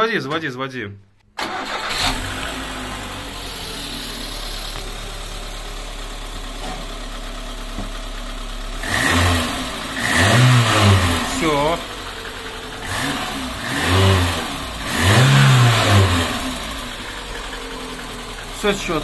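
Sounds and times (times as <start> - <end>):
car engine revving: 1.4 - 19.0
car engine starting and idling: 1.4 - 19.0.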